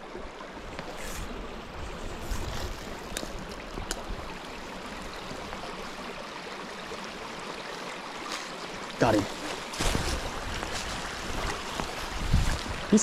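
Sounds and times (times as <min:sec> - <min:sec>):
creek water babbling over rocks: 0:00.0 - 0:13.0.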